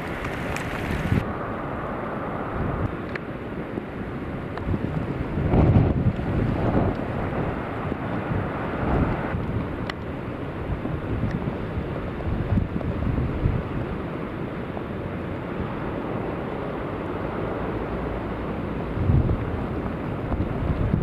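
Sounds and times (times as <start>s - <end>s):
heavy surf on shingle beach: 0.0s - 21.0s
wind buffeting microphone: 0.0s - 21.0s.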